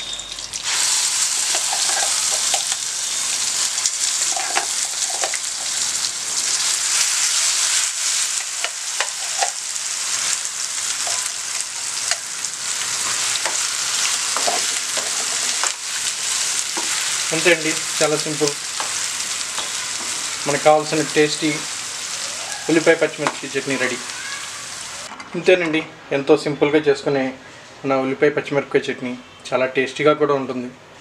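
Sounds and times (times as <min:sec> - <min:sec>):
hot oil sizzling: 0:00.0 - 0:25.1.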